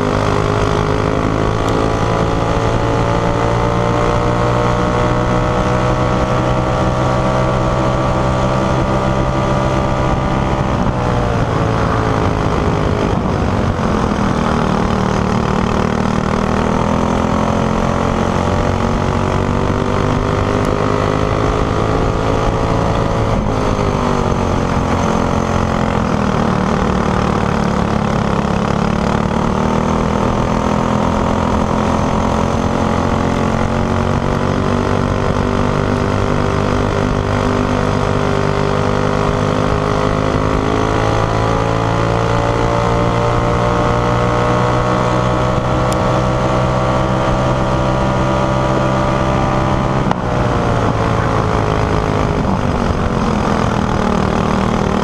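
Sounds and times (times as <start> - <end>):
racing kart engine revving: 0.0 - 55.0.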